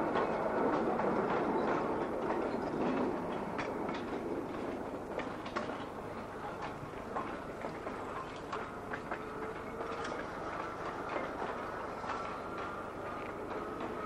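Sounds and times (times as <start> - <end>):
tram rumbling along track: 0.0 - 14.0
wheels clicking over rails: 0.0 - 14.0.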